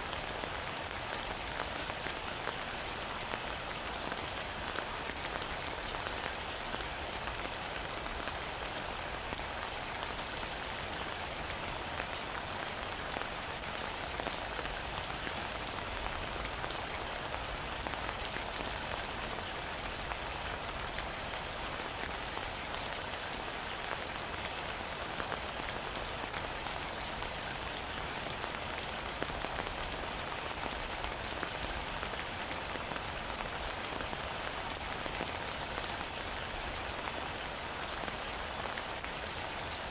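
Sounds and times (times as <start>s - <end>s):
heavy rain pattering: 0.1s - 39.9s.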